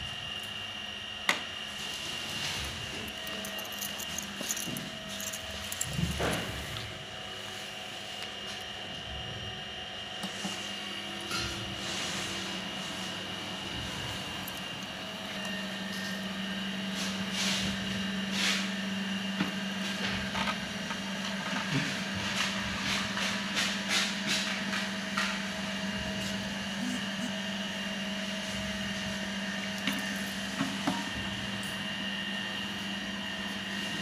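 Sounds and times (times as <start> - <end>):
refrigeration unit humming: 0.0 - 34.0.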